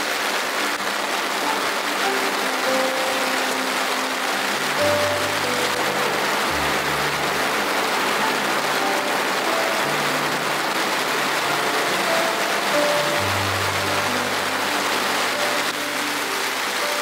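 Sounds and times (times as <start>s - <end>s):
rain pattering on tent fabric: 0.0s - 17.0s
soft background music: 0.0s - 17.0s.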